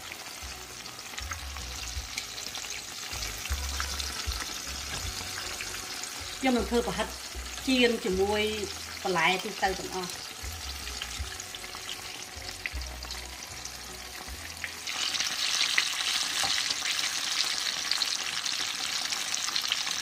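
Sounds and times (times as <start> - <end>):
batter deep-frying in oil: 0.0 - 20.0.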